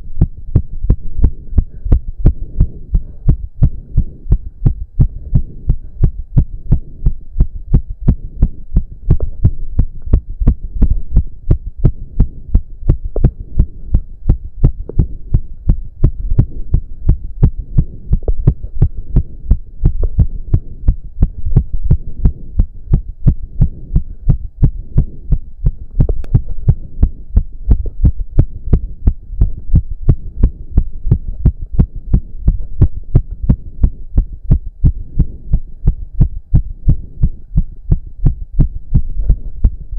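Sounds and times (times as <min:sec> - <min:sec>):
fast heartbeat thumps: 0:00.0 - 0:39.9.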